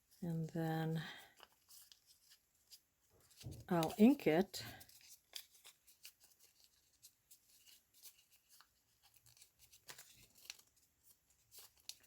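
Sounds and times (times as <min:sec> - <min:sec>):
paper rustling and tapping: 0:01.4 - 0:04.2, 0:04.8 - 0:12.0.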